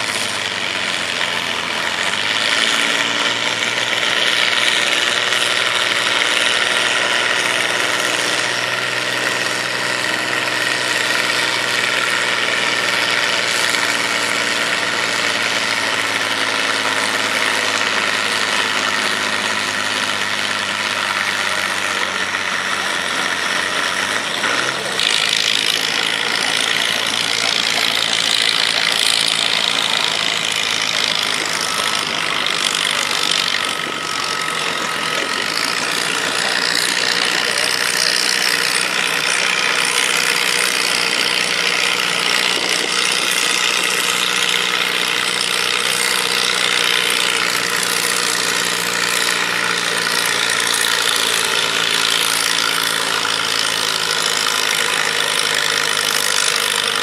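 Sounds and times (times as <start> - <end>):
diesel tractor engine under load: 0.0 - 57.0.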